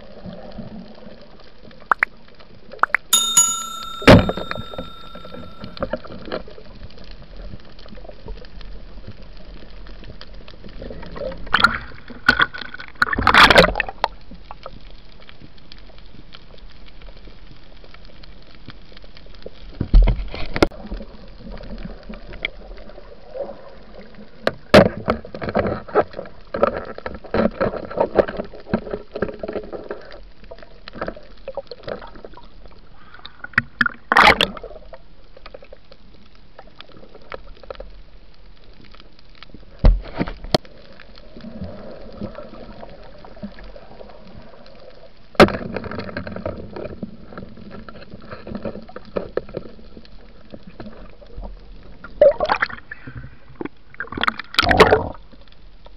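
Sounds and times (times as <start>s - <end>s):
muffled underwater water movement: 0.0s - 3.2s, 5.8s - 55.9s.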